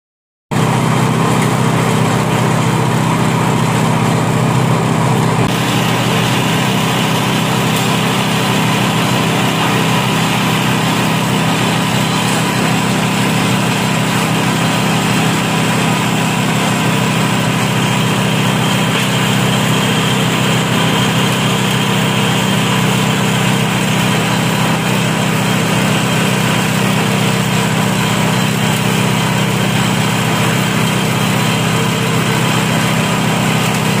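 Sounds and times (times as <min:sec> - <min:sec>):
small petrol engine running: 0:00.5 - 0:34.0.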